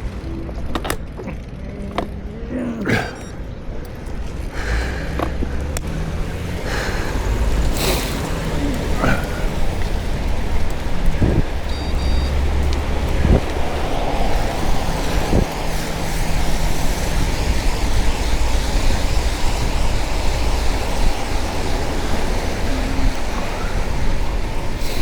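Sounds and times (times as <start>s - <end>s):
vehicle rumble and road noise: 0.0s - 25.0s.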